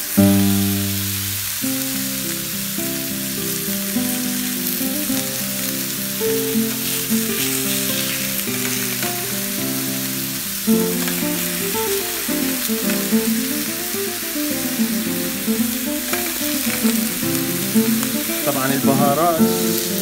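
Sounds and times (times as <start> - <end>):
meat sizzling in metal tray: 0.0 - 20.0.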